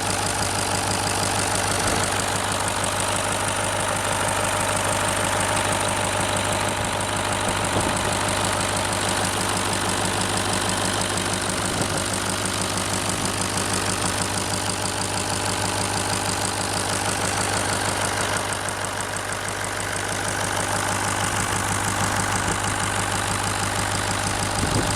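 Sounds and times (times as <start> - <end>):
diesel engine idling with knock: 0.0 - 24.9.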